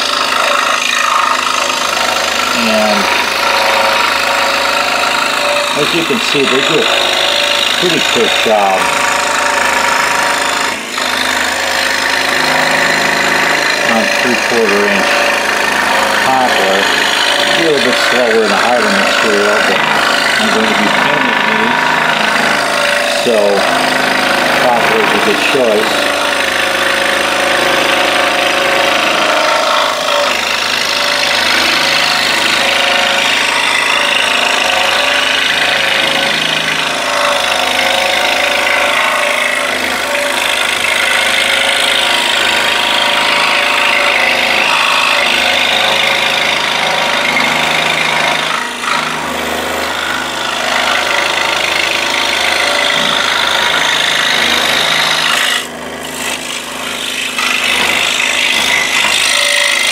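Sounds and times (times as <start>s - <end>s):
scroll saw cutting wood: 0.0s - 59.9s.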